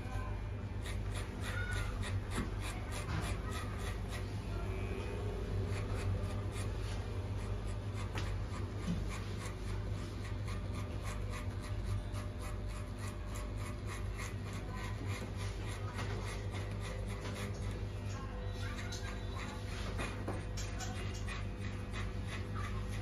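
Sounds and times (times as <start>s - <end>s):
blades cutting hair crackle: 0.7s - 23.0s.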